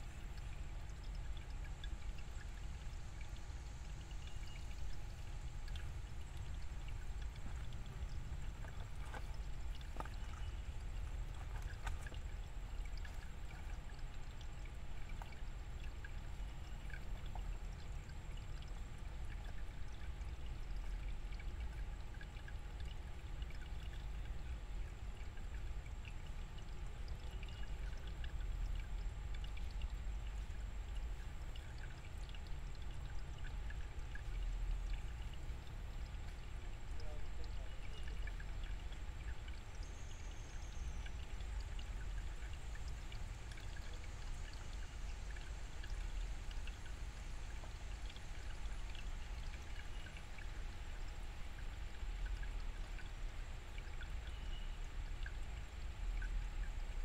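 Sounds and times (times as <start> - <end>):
stream running over rocks: 0.0 - 57.0
water drips and plinks: 0.0 - 57.0.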